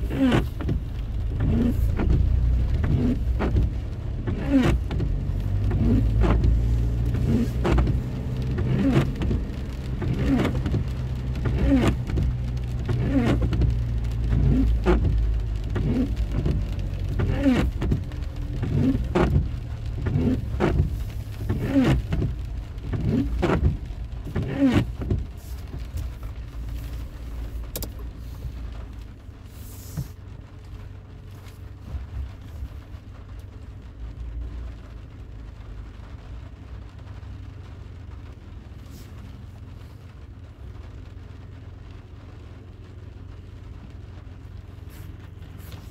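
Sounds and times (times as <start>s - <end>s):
car engine and road rumble: 0.0s - 45.9s
windscreen wipers sweeping: 0.0s - 45.9s.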